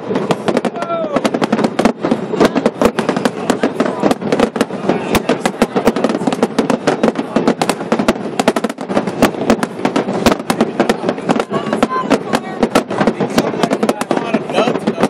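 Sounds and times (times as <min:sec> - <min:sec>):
fireworks crackling and popping: 0:00.0 - 0:15.0
roar of firework bursts: 0:00.0 - 0:15.0.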